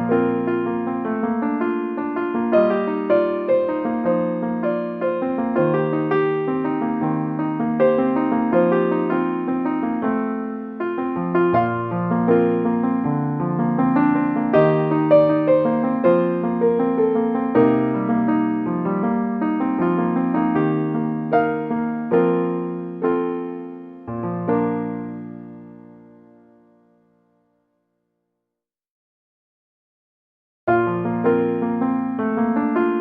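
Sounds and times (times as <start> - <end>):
soft piano music: 0.0 - 27.8, 30.7 - 33.0.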